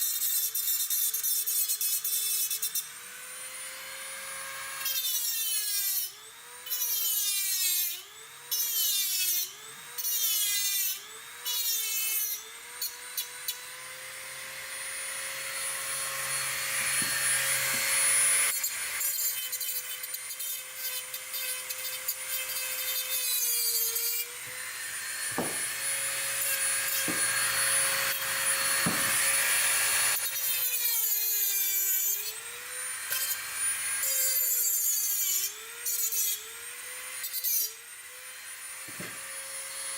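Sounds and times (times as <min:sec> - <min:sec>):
power tool motor whining: 0:00.0 - 0:39.9.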